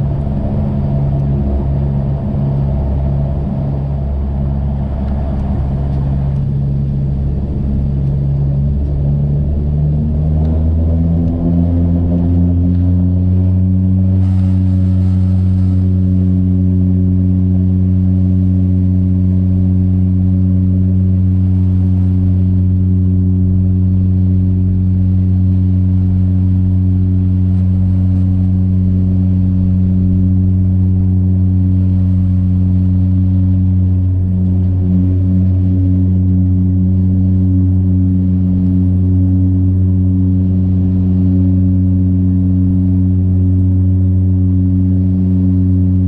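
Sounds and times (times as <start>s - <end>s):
turboprop engine drone in cabin: 0.0s - 46.0s.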